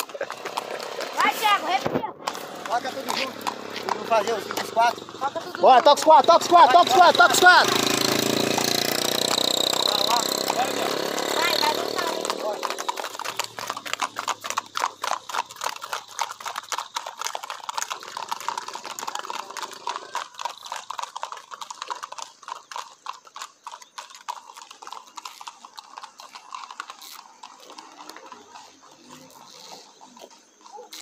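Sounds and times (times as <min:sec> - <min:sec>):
horse hooves clattering on asphalt: 0:00.0 - 0:31.0.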